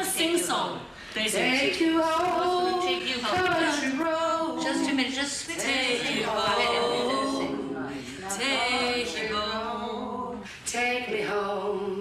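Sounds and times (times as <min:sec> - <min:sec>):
person singing unaccompanied: 0:01.4 - 0:12.0.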